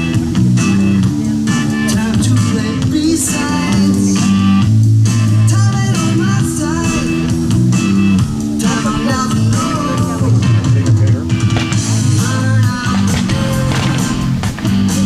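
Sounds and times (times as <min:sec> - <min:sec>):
rock music with guitars: 0:00.0 - 0:15.0.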